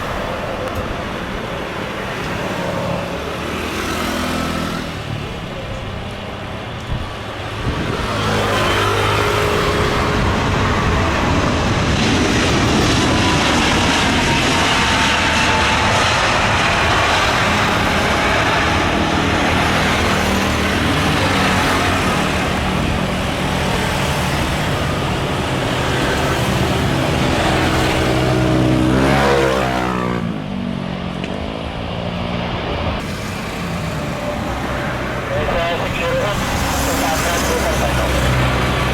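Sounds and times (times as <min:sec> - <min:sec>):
jet aircraft passing by: 0:00.0 - 0:38.9.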